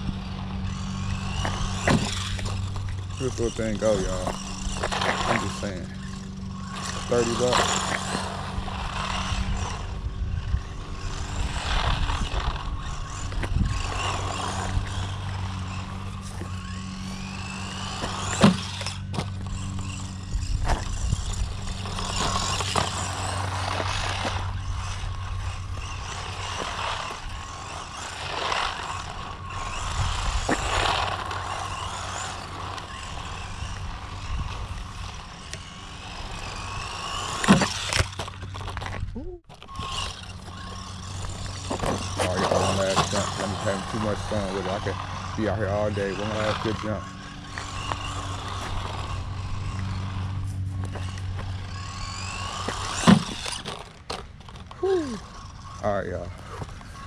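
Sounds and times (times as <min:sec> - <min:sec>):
electric motor whining: 0:00.0 - 0:57.0
low steady hum: 0:00.0 - 0:57.0.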